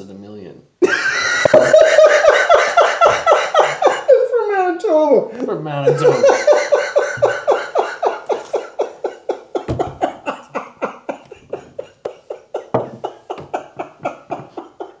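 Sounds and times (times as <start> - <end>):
person cackling: 0.8 - 4.3, 5.9 - 15.0.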